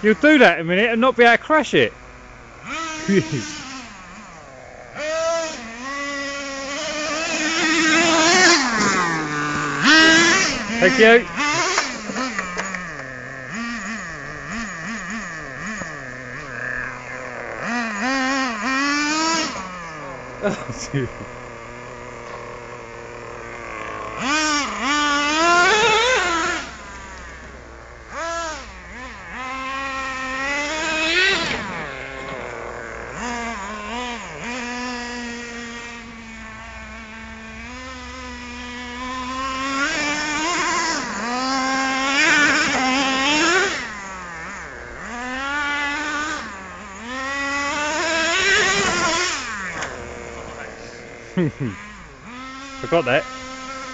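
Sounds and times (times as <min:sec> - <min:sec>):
small nitro engine revving: 0:00.0 - 0:53.9.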